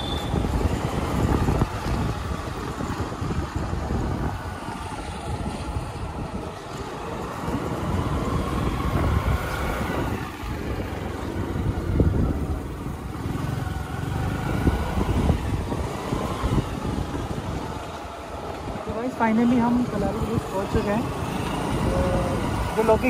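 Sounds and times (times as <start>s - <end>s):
wind rumble on microphone: 0.0s - 21.1s.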